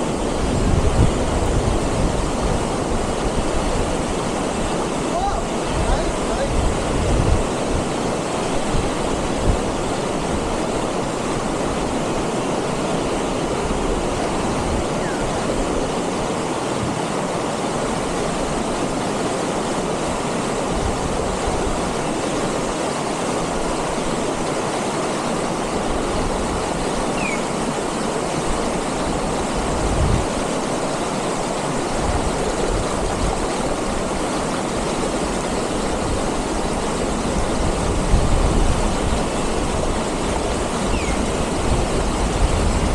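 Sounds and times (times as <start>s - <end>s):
stream rushing over boulders: 0.0s - 42.9s.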